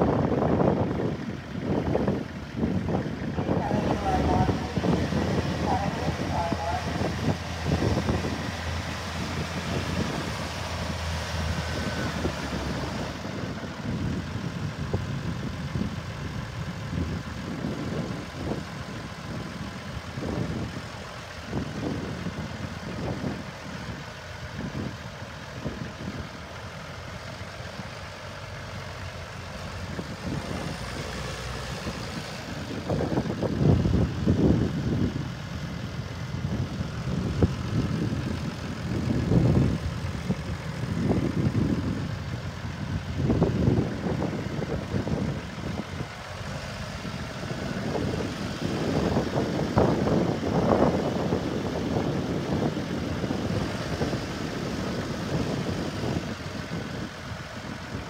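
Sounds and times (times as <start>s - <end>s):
tractor diesel engine rumbling: 0.0s - 58.0s.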